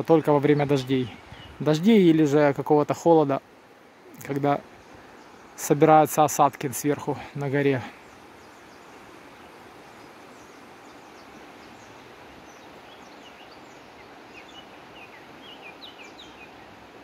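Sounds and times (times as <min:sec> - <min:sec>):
small birds chirping: 0:00.0 - 0:03.3, 0:04.0 - 0:17.0
outdoor background hiss: 0:00.0 - 0:17.0.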